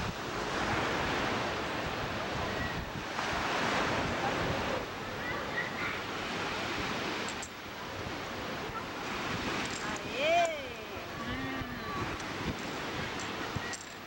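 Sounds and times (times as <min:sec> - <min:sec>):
waves breaking on a beach: 0:00.0 - 0:14.0
wind buffeting microphone: 0:00.0 - 0:14.0.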